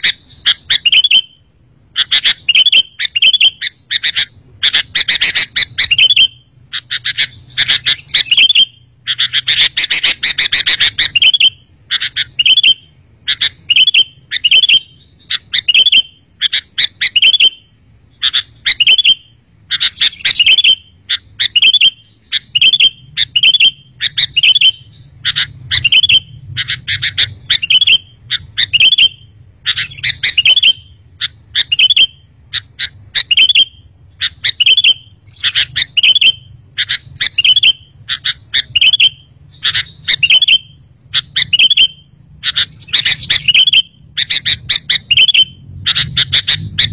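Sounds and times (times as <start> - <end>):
bird chattering calls: 0.0 - 46.9.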